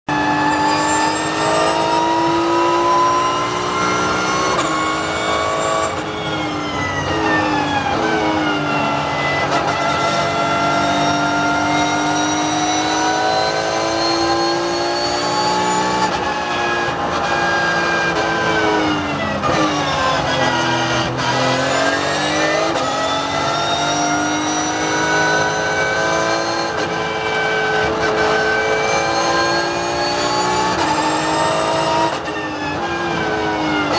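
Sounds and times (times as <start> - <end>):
race car engine revving: 0.2 - 6.4, 7.0 - 33.9.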